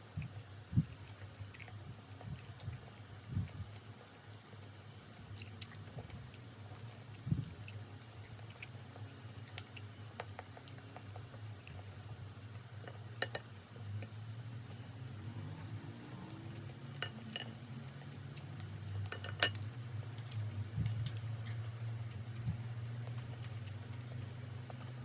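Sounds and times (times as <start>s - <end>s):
person chewing food: 0.1s - 19.2s, 19.8s - 25.0s.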